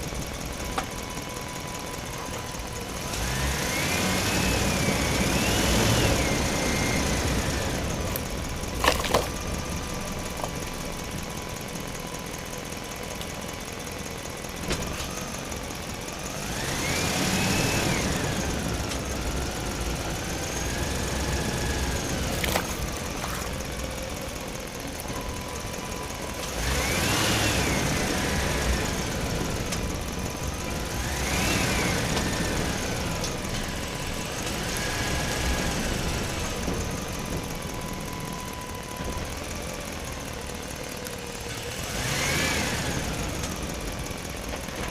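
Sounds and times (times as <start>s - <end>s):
small diesel pump engine running: 0.0s - 44.9s.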